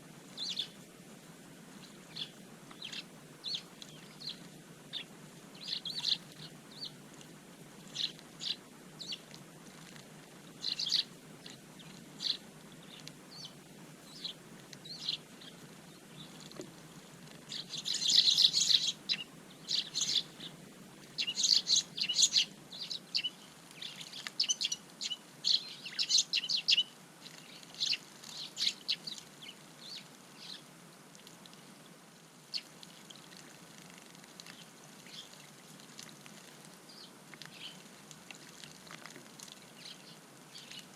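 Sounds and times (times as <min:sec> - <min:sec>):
small birds chirping: 0:00.3 - 0:00.8, 0:01.8 - 0:30.7, 0:32.4 - 0:40.9.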